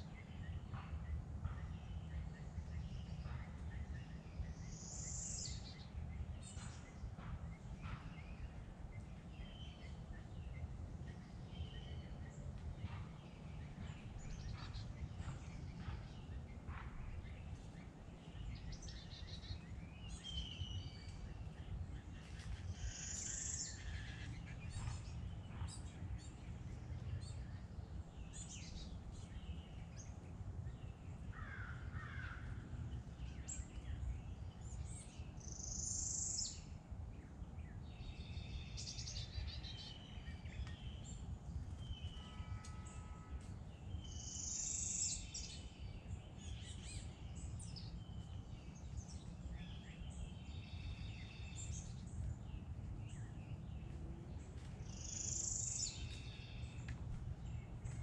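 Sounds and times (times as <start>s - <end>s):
low outdoor rumble: 0.0s - 44.2s, 45.0s - 58.0s
birds singing and chirping: 0.0s - 58.0s.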